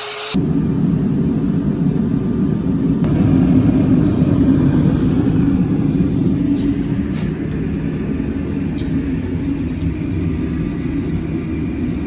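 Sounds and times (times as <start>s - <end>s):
forge rumbling: 0.4s - 12.0s.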